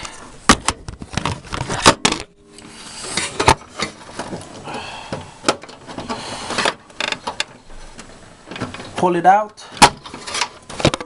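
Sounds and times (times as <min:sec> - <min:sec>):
plastic and metal parts clattering: 0:00.0 - 0:02.3, 0:03.1 - 0:11.0.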